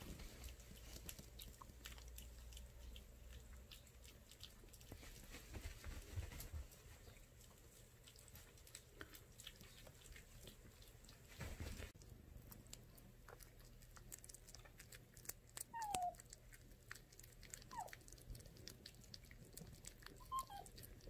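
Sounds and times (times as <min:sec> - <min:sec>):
kittens lapping and chewing: 0:00.0 - 0:21.0.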